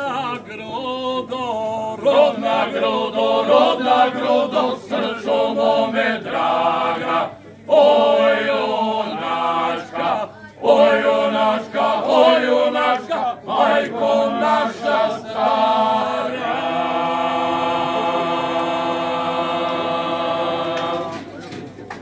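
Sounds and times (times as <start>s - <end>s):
male a cappella group singing: 0.0s - 21.4s.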